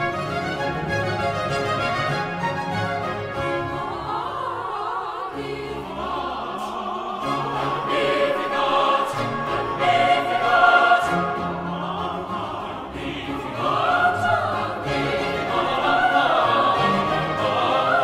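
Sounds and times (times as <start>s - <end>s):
slow classical choral singing: 3.3s - 18.0s.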